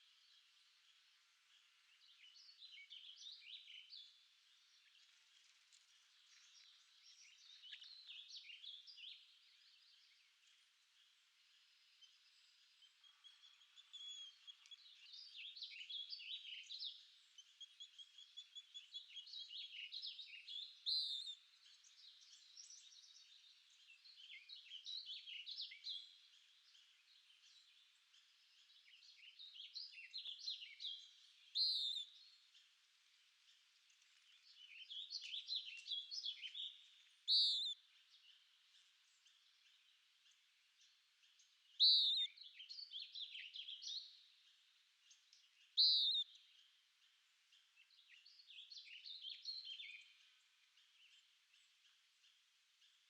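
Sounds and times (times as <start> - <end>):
songbird twittering: 0.1 - 5.0, 6.1 - 32.7, 33.5 - 53.0.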